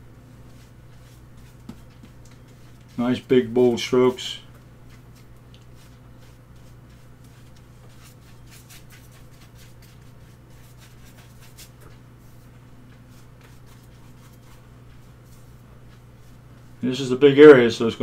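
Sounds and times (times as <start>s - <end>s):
steady low hum: 0.0s - 18.0s
brush scraping across paper: 0.3s - 3.9s, 4.8s - 16.8s.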